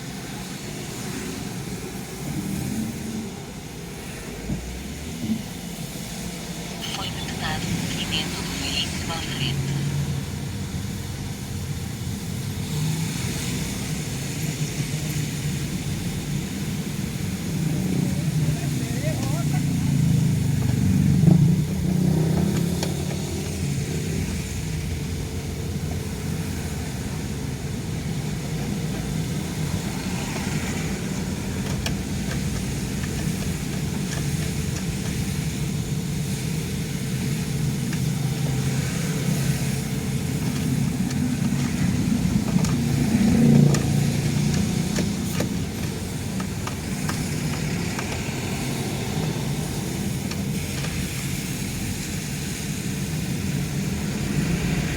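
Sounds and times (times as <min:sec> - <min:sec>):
car engine and tyre rumble: 0:00.0 - 0:54.9.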